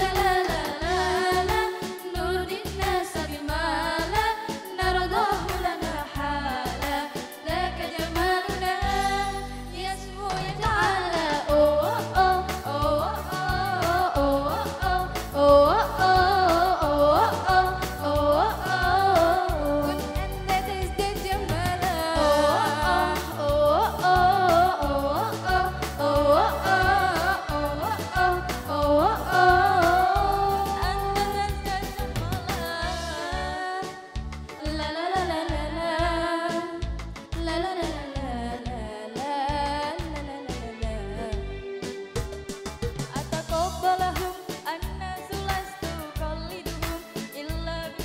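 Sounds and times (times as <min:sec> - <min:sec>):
bass line: 0:00.0 - 0:33.6, 0:39.5 - 0:46.9
keyboard backing: 0:00.0 - 0:38.6
women singing: 0:00.0 - 0:41.6, 0:43.1 - 0:48.0.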